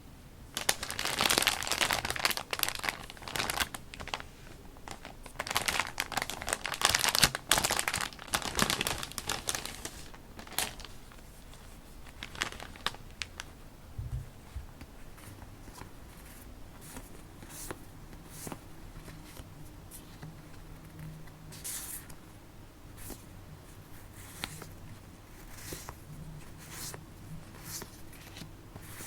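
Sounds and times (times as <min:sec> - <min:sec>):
paper crinkling and rustling: 0:00.6 - 0:13.6, 0:14.5 - 0:22.2, 0:22.9 - 0:29.0.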